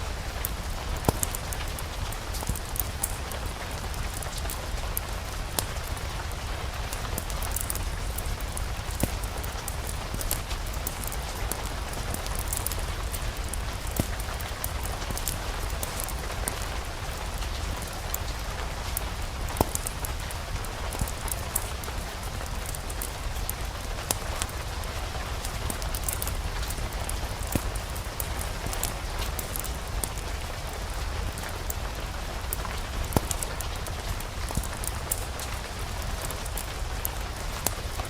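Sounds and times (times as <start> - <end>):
fireplace fire crackling: 0.0 - 38.0
steady rain: 0.0 - 38.0.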